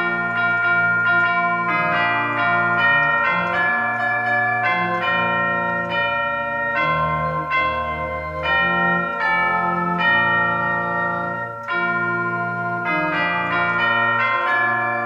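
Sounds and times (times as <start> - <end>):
church organ playing hymn: 0.0 - 15.0.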